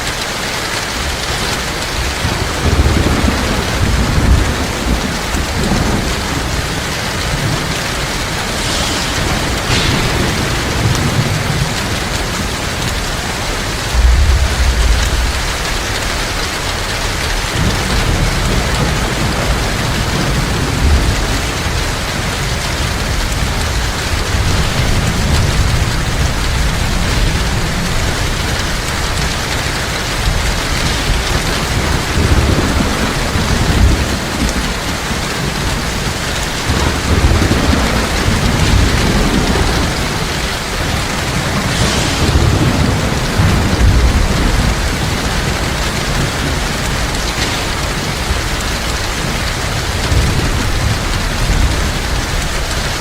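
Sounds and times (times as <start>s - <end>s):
heavy rain falling: 0.0s - 53.0s
low thunder rumbling: 0.0s - 53.0s.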